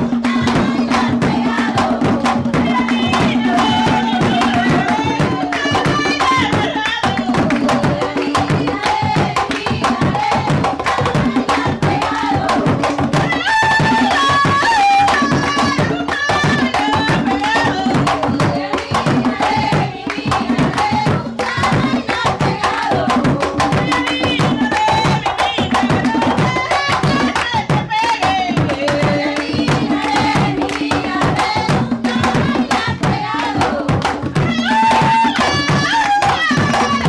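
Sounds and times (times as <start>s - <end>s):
hand-played drums beat: 0.0s - 37.0s
woman singing: 0.0s - 37.0s.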